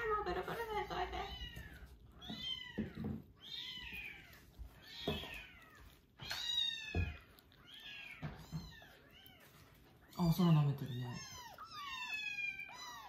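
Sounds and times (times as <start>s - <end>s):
kittens mewing: 0.0s - 13.0s.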